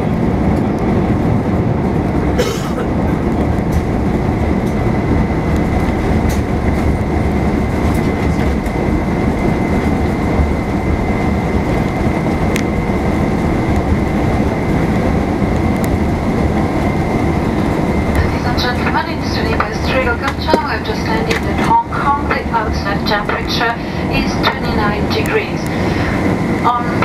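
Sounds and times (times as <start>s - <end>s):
rumble of wheels and jet engines: 0.0s - 27.0s
thin steady whine: 3.3s - 27.0s.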